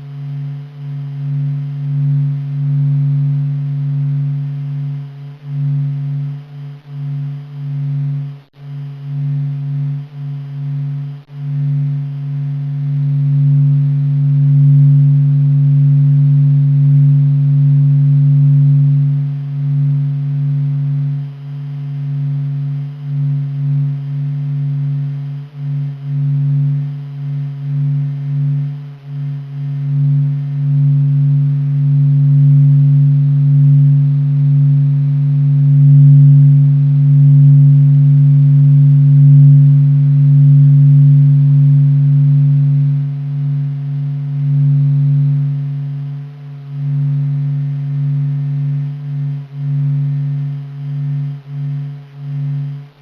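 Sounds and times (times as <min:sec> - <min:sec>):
faint higher tones: 0:00.0 - 0:53.0
low steady hum: 0:00.0 - 0:53.0.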